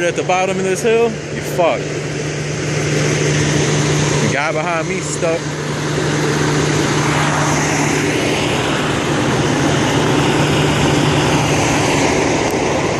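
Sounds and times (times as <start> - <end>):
car engine droning: 0.0 - 12.9.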